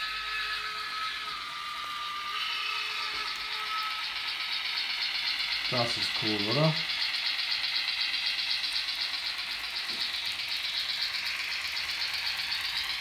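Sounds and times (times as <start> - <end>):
model train wheels rattling on rail: 0.0 - 13.0.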